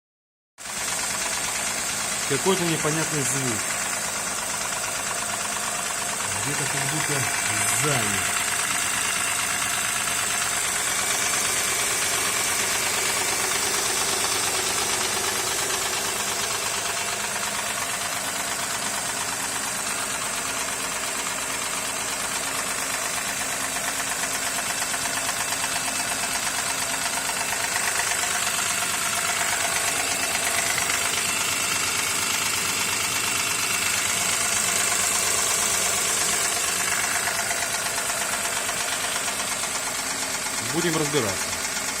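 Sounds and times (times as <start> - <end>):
car engine idling: 0.6 - 42.0
engine knock: 0.6 - 42.0.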